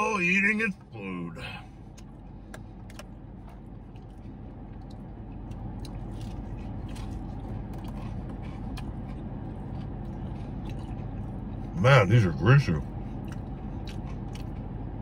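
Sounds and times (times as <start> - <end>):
low hum in car cabin: 0.0 - 15.0
man chewing and lip smacking: 1.8 - 11.8, 12.8 - 15.0.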